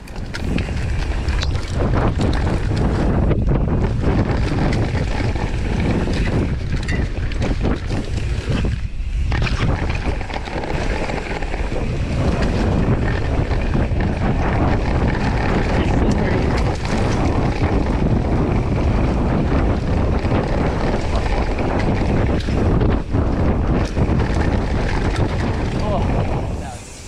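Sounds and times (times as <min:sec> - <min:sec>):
bike tyres rolling on dirt: 0:00.0 - 0:27.0
wind buffeting microphone: 0:00.0 - 0:27.0.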